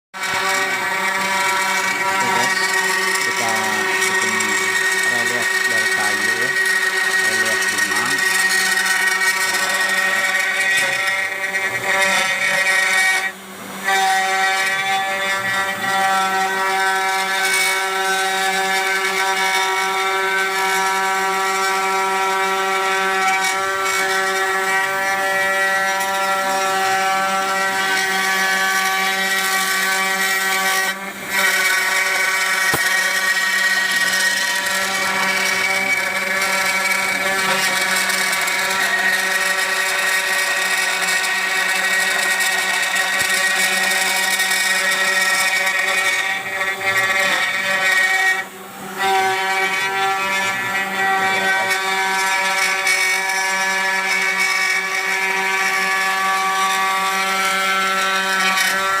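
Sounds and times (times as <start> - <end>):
router cutting wood: 0.2 - 59.0
router spindle whining: 0.2 - 59.0.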